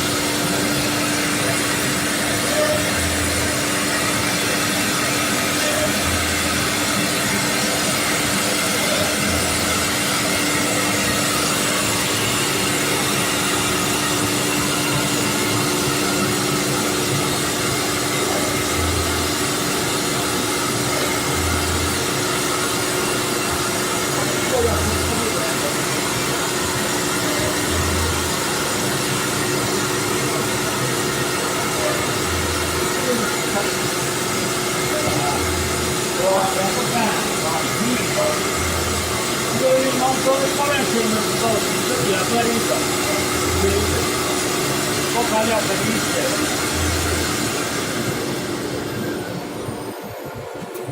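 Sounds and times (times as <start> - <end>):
router machine running: 0.0 - 50.9.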